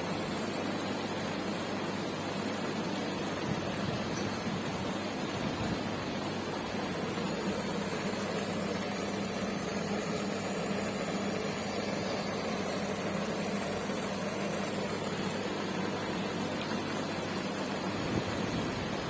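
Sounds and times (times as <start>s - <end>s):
aquarium pumps humming: 0.0s - 19.0s.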